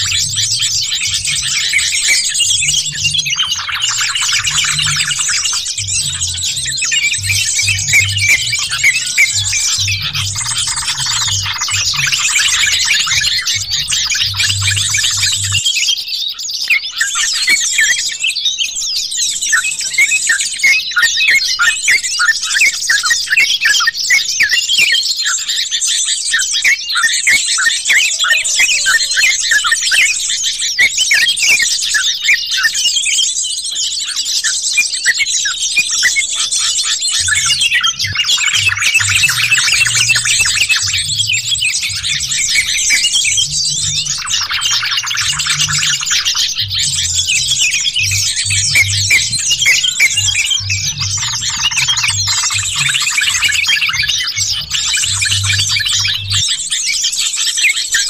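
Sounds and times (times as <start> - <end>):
bulbuls chattering and calling: 0.0 - 58.0.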